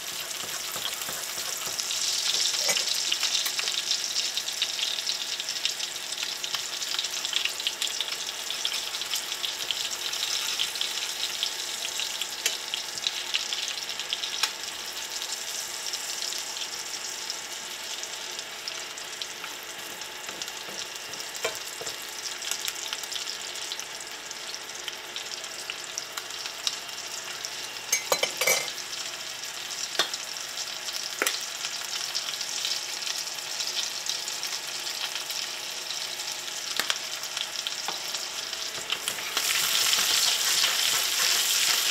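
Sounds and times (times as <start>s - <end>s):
scallops sizzling in fat: 0.0s - 41.9s.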